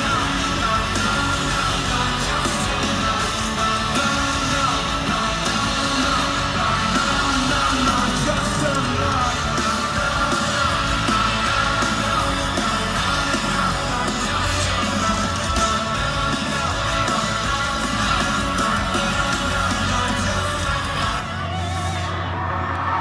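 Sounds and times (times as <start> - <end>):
live pop-punk band playing: 0.0 - 23.0
voices singing and yelling: 0.0 - 23.0.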